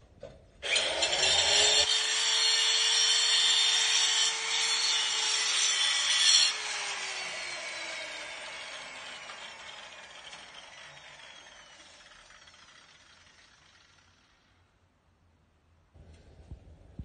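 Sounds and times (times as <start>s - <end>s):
stone cutter grinding marble: 0.6s - 14.4s.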